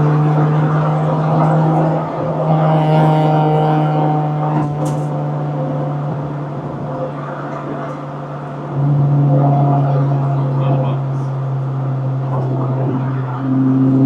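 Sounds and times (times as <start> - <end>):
car engine droning inside cabin: 0.0 - 14.0.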